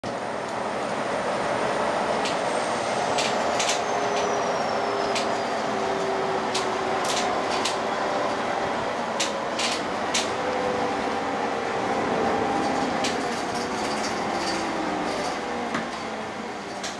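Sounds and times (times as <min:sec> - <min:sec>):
bus running noise: 0:00.0 - 0:16.9.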